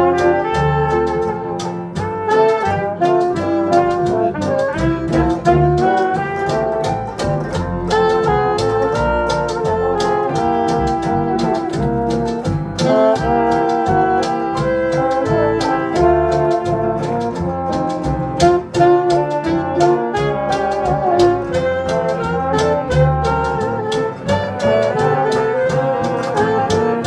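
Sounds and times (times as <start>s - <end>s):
jazz band playing: 0.0s - 27.0s.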